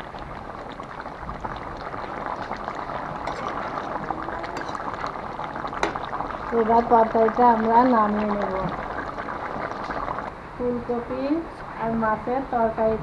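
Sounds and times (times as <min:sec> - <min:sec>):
curry bubbling in a pot: 0:00.0 - 0:10.8.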